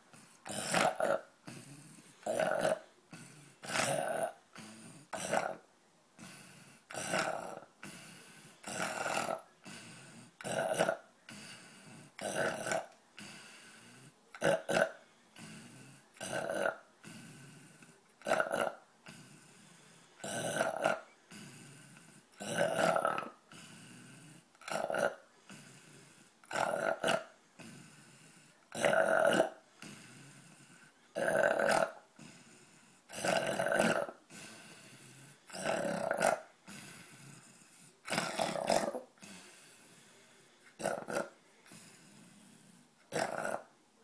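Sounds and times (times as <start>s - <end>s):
man snoring: 0.3s - 5.6s, 6.2s - 40.0s, 40.7s - 43.7s.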